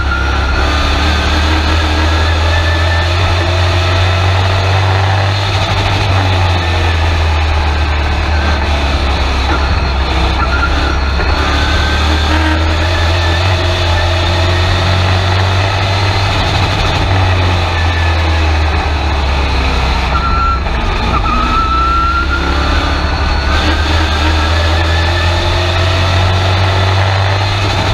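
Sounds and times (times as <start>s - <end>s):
road and wind noise: 0.0s - 27.9s
truck engine running: 0.0s - 27.9s.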